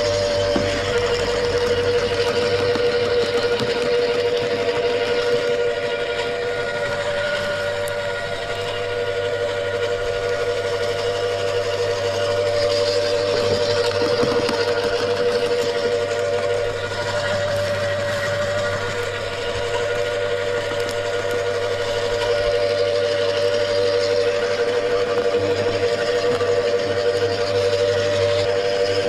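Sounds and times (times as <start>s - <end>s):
wood chipper running: 0.0s - 29.0s.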